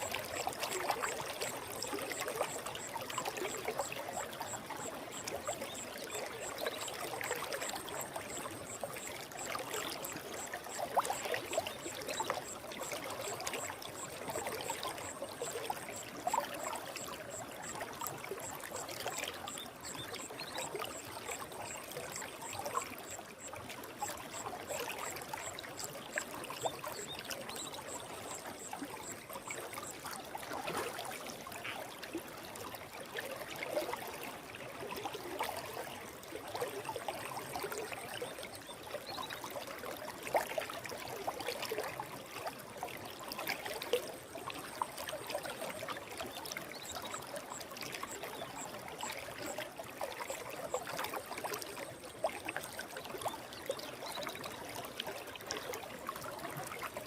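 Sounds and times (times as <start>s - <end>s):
stream gurgling over rocks: 0.0s - 57.0s.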